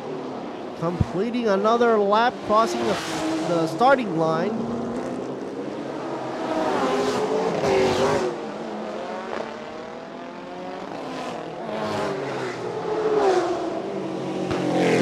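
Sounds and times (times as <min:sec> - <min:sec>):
racing car engines passing: 0:00.0 - 0:15.0.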